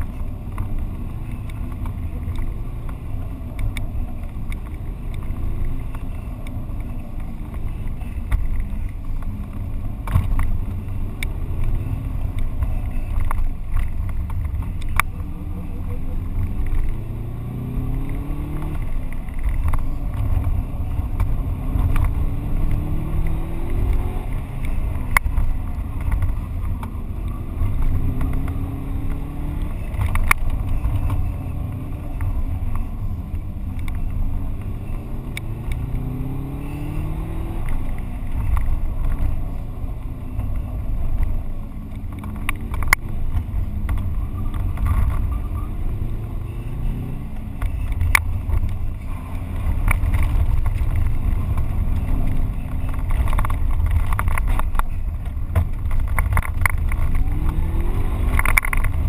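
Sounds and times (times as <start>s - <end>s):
car engine revving: 0.0s - 59.0s
low road rumble: 0.0s - 59.0s.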